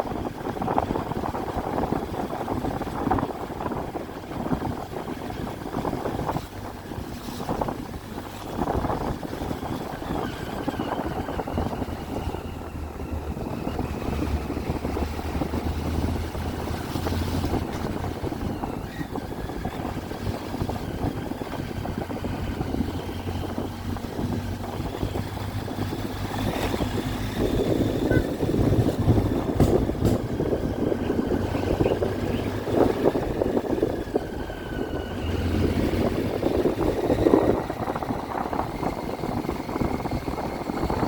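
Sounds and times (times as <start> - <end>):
motorcycle engine running: 0.0 - 41.0
wind and road rush: 0.0 - 41.0.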